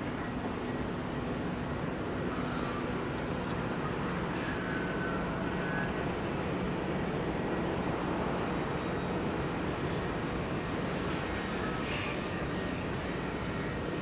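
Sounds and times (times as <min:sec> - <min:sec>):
distant marine engines droning: 0:00.0 - 0:14.0.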